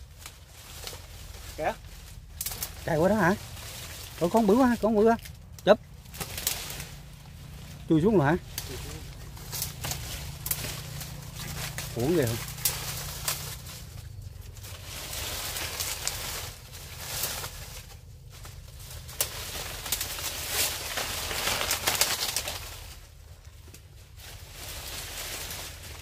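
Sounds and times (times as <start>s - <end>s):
dry fronds rustling and crackling: 0.0s - 26.0s.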